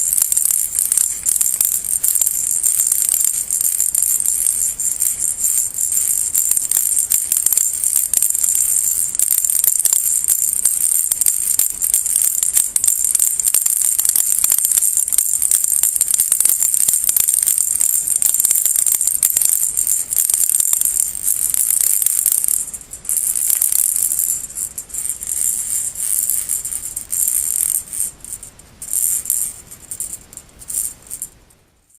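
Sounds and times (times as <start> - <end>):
baby rattle shaken: 0.0 - 32.0.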